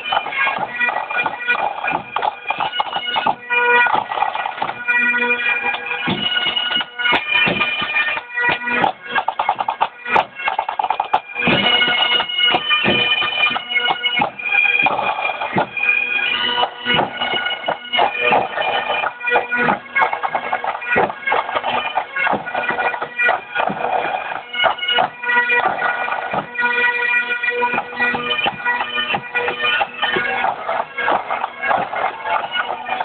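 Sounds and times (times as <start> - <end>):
bagpipes playing a tune: 0.0 - 33.0.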